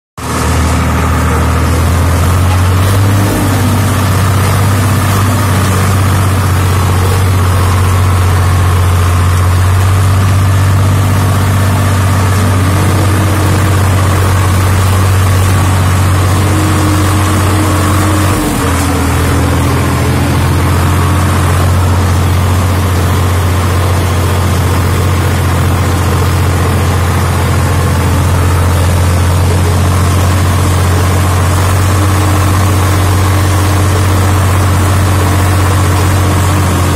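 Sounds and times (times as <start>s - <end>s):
tractor engine running: 0.2s - 36.9s.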